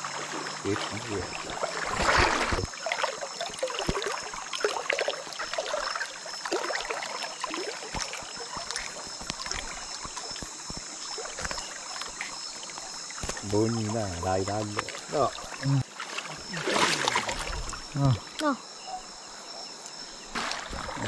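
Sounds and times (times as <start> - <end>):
river water splashing: 0.0 - 18.4, 20.3 - 21.0.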